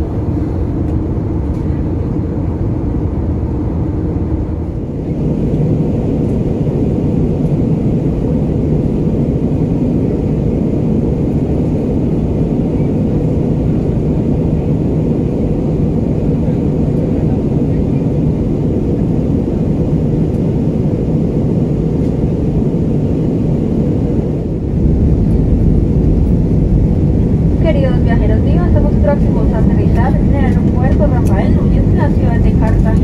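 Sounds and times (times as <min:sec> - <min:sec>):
engine rumble in aircraft cabin: 0:00.0 - 0:33.0.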